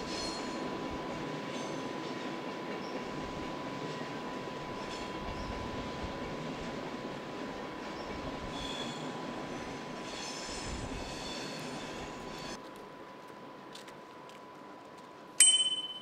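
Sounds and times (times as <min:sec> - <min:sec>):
train rumbling on tracks: 0:00.0 - 0:14.2.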